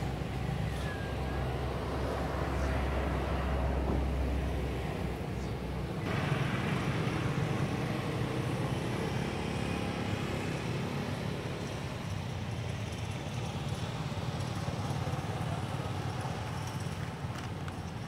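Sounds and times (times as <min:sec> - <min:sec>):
road noise: 0:00.0 - 0:18.0
vehicle engine rumbling: 0:00.0 - 0:18.0.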